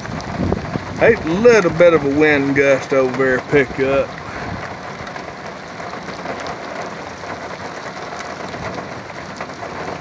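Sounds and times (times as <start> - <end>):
heavy rain hiss: 0.0 - 10.0
rain drops ticking: 0.0 - 10.0.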